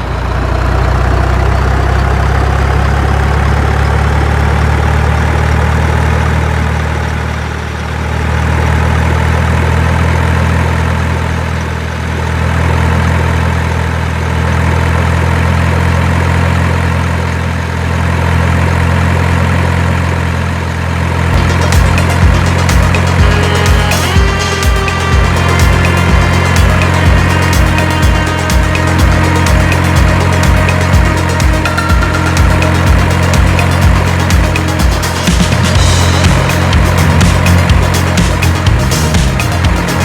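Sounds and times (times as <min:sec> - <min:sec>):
heavy engine idling: 0:00.0 - 0:40.0.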